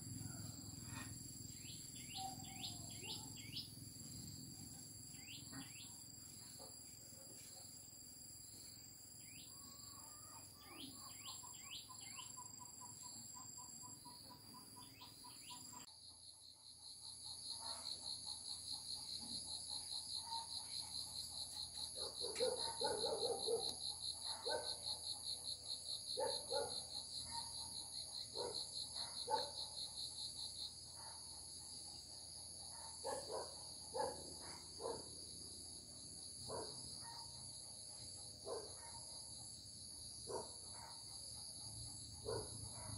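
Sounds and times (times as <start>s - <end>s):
crickets trilling: 0.0s - 42.9s
fast pulsing insect trill: 0.0s - 42.9s.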